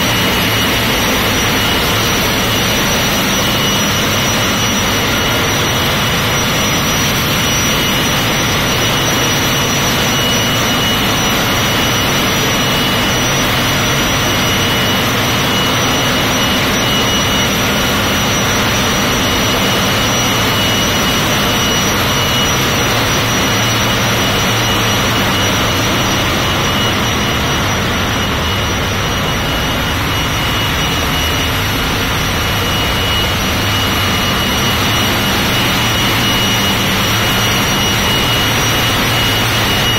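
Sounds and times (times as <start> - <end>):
engine room roar: 0.0 - 39.9
high-pitched whine: 0.0 - 39.9.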